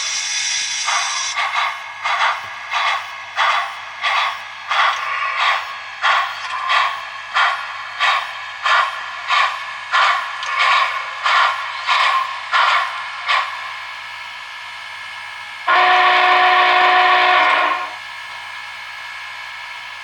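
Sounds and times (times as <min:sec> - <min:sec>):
model locomotive steam chuffs: 0:00.0 - 0:20.0.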